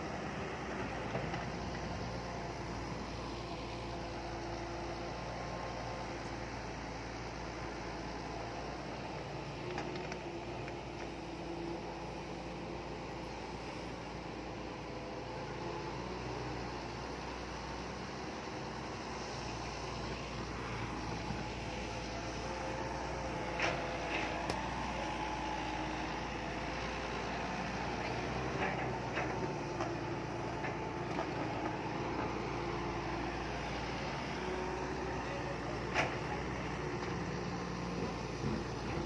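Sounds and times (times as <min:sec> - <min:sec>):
heavy machinery engine running: 0:00.0 - 0:39.0.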